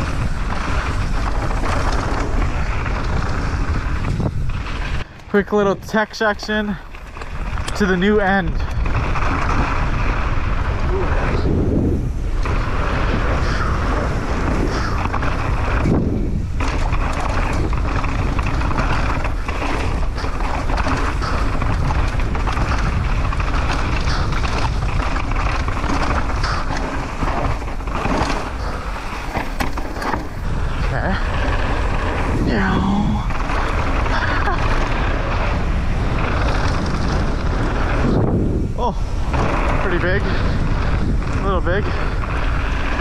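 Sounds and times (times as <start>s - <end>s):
bike rattling over rocks: 0.0s - 43.0s
bike tyre noise on dirt: 0.0s - 43.0s
wind buffeting microphone: 0.0s - 43.0s.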